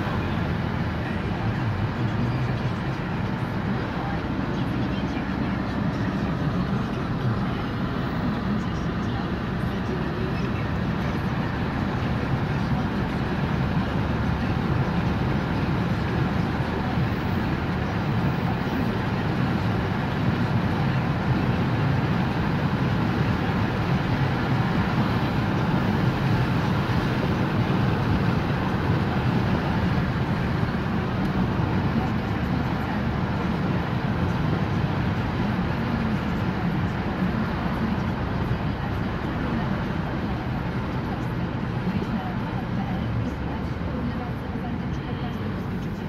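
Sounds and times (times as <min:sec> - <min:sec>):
car road and engine rumble: 0:00.0 - 0:46.0.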